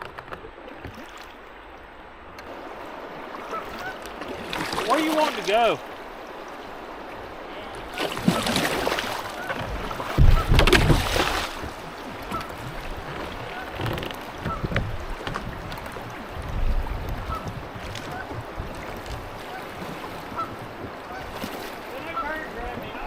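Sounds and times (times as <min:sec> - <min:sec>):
water splashing around kayak: 0:00.0 - 0:23.0.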